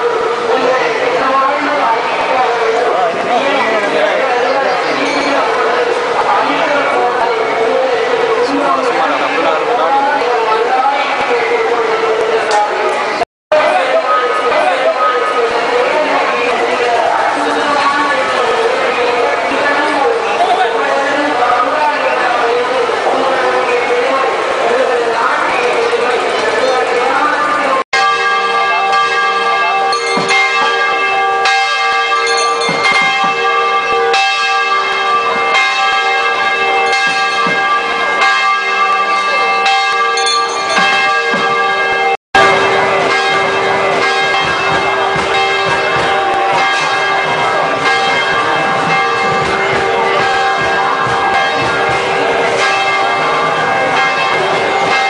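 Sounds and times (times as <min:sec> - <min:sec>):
temple bells clanging: 0:00.0 - 0:55.0.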